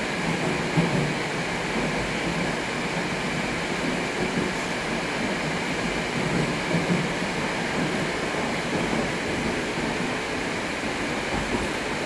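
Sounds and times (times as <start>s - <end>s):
metro train rolling: 0.0s - 12.0s.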